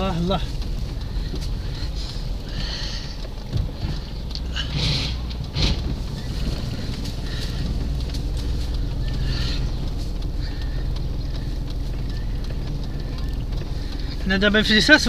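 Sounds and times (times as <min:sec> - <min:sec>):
car engine and road rumble: 0:00.0 - 0:15.0
light clicks and rattles: 0:00.0 - 0:15.0.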